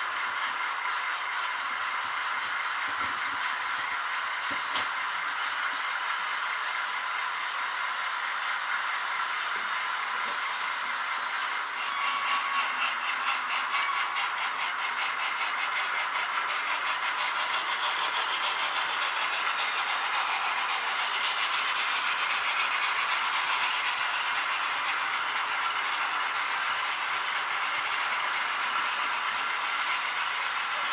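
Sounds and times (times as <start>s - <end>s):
model train motors whirring: 0.0s - 30.9s.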